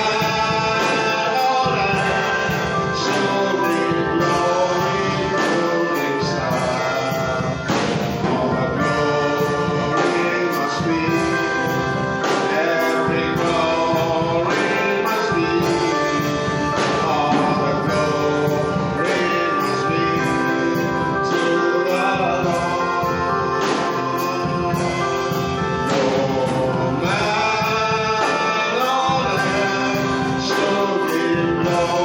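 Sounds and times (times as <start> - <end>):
group of singers: 0.0 - 32.0
sustained instrumental chords: 0.0 - 32.0.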